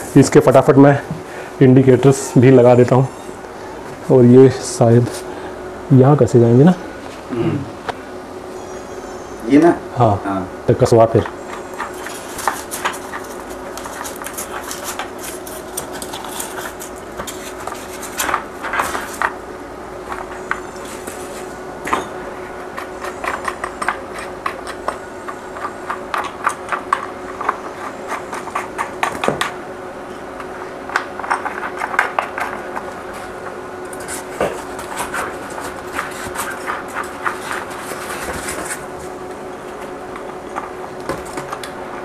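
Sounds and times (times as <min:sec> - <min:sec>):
faint hum: 0:00.0 - 0:42.0.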